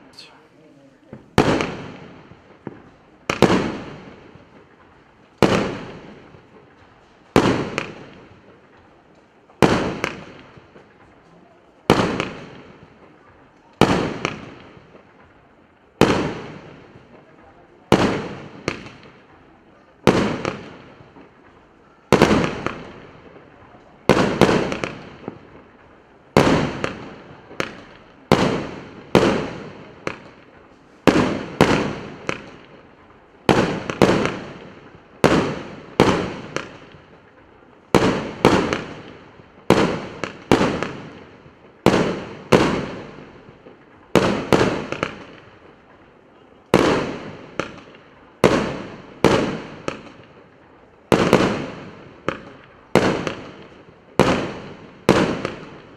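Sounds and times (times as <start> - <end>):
firework bangs: 0.0 - 55.9.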